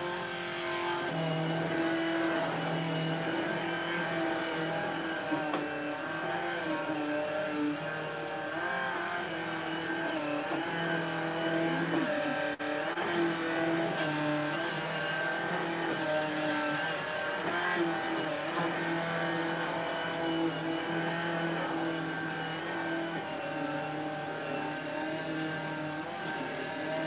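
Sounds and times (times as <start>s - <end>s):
stick vacuum cleaner running: 0.0s - 27.0s.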